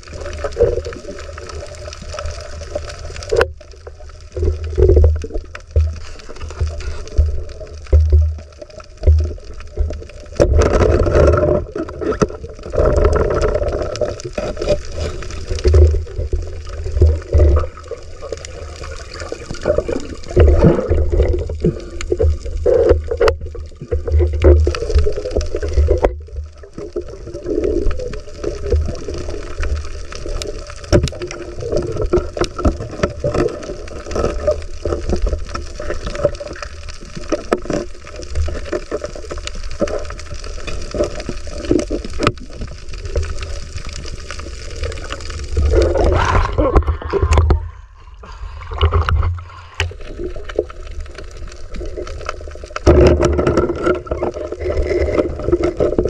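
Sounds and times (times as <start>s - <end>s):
rushes of water: 0.0s - 56.0s
underwater clicks and crackles: 0.0s - 56.0s
underwater water noise: 0.0s - 56.0s.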